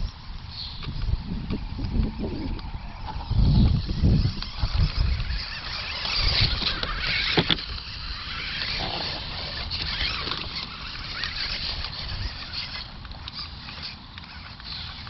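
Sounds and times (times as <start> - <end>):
electric drive motors running: 0.0 - 15.0.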